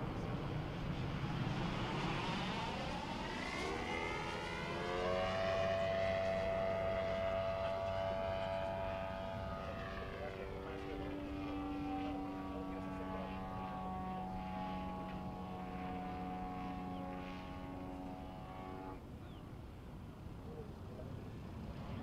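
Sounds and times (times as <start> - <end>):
model plane engine in flight: 0.0 - 22.0.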